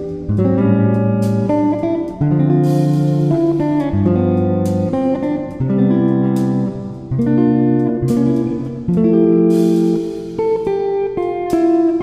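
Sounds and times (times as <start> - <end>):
background instrumental music: 0.0 - 12.0.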